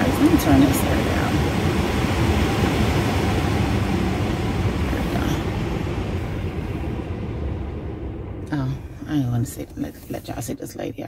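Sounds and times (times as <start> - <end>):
car ventilation fan blowing: 0.0 - 11.0
low rumble: 0.0 - 11.0.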